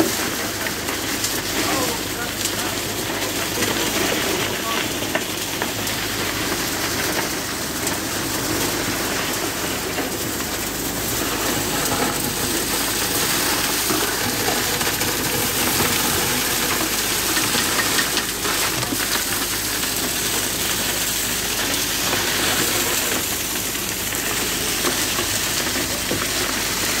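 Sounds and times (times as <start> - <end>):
concrete pump running: 0.0 - 27.0
wet concrete pouring: 0.0 - 27.0.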